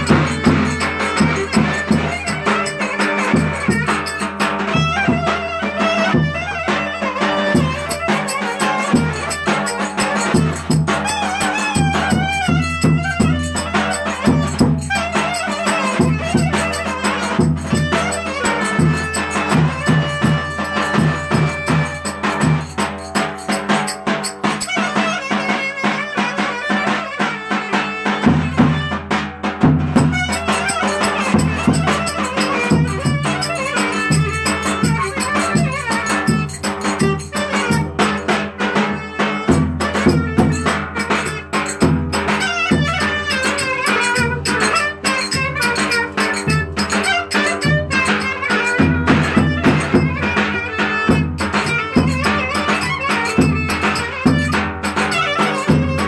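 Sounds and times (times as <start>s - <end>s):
folk dance melody: 0.0s - 56.0s
steady drum beat: 0.0s - 56.0s.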